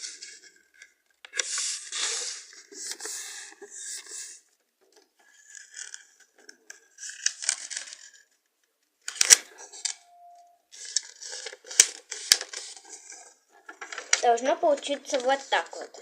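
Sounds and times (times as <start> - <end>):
paper rustling and crinkling: 0.0 - 4.4, 5.2 - 8.4, 10.7 - 16.0.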